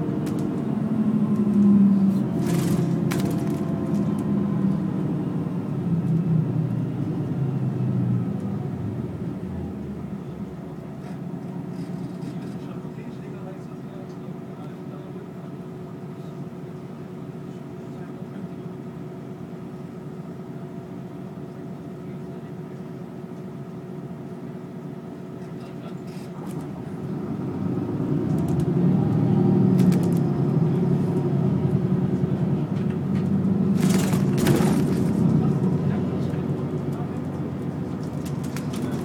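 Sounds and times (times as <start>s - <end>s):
bus engine: 0.0s - 39.0s.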